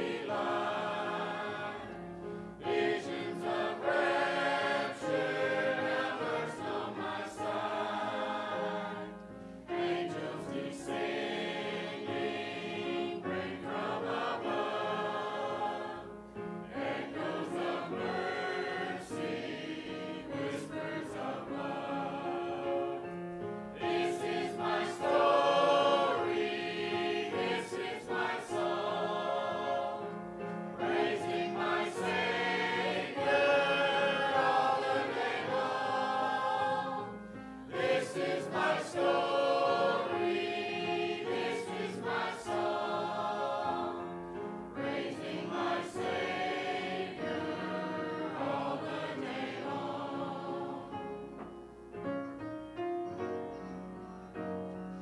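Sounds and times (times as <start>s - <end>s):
choir singing a hymn: 0.0s - 51.7s.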